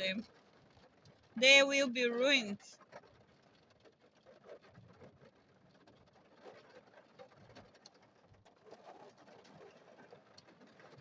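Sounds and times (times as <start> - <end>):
faint heavy rain patter: 0.0 - 11.0.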